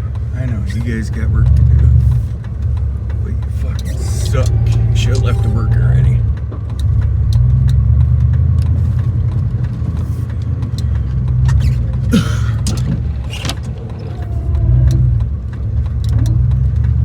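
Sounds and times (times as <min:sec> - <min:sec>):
pickup truck engine droning: 0:00.0 - 0:17.0.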